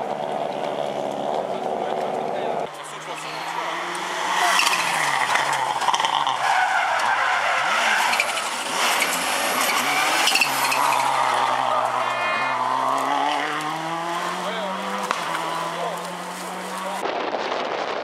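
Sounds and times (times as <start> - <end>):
rally car engine revving: 0.0 - 17.6.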